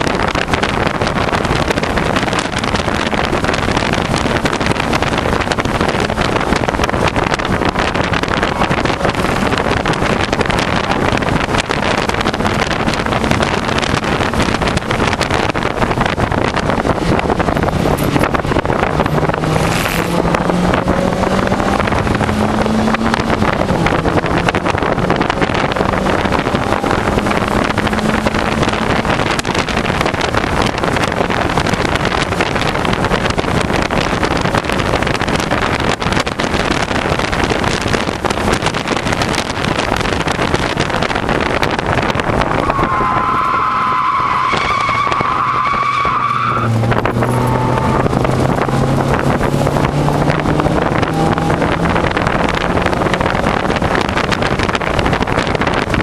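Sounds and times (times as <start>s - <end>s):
car engine revving: 0.0s - 56.0s
wind and road noise: 0.0s - 56.0s.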